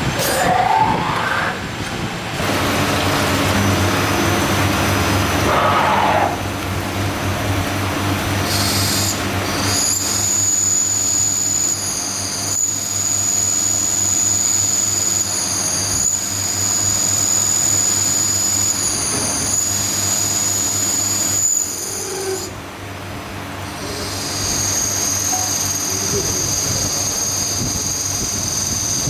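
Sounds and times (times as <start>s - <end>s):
factory machinery whine: 0.0s - 29.0s.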